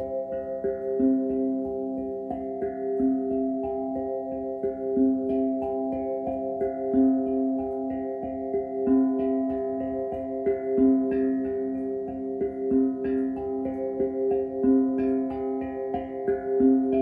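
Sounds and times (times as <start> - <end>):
echoing plucked-string melody: 0.0 - 17.0.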